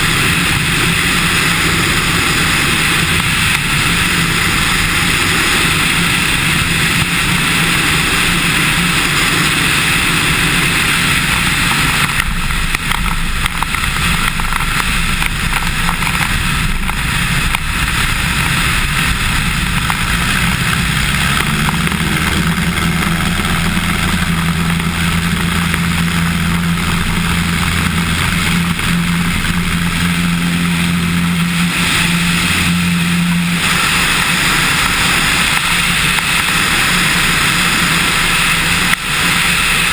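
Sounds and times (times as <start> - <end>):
air rushing: 0.0 - 39.9
airplane engine and propeller droning: 0.0 - 39.9.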